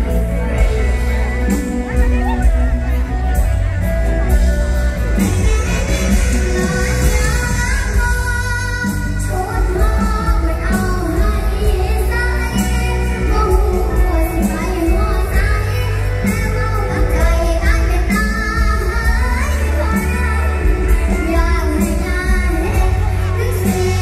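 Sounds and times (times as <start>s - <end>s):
heavy bass and drum beat: 0.0s - 24.0s
live band music over loud pa: 0.0s - 24.0s
person singing: 0.0s - 24.0s.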